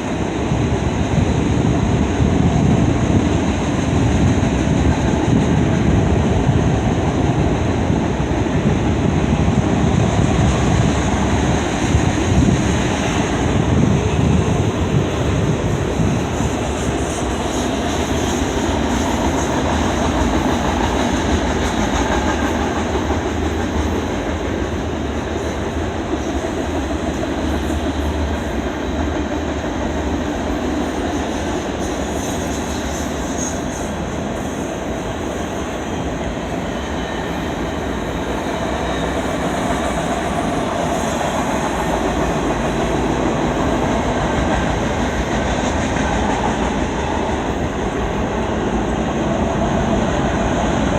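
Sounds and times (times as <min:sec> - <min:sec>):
freight train rumble and rattle: 0:00.0 - 0:50.9.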